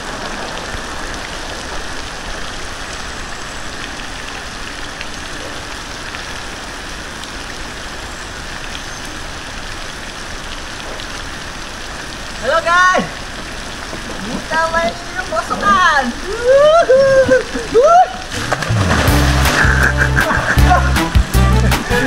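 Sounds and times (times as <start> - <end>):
falling water splashing: 0.0 - 22.0.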